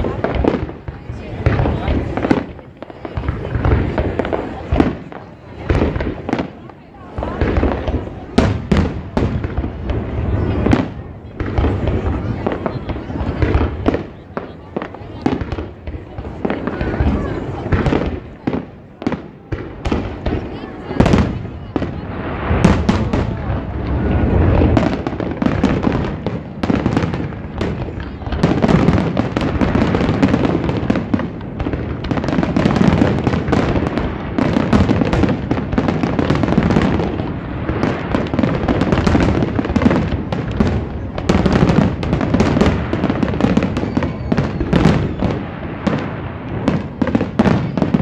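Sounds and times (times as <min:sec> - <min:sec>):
fireworks bangs and crackles: 0:00.0 - 0:48.0.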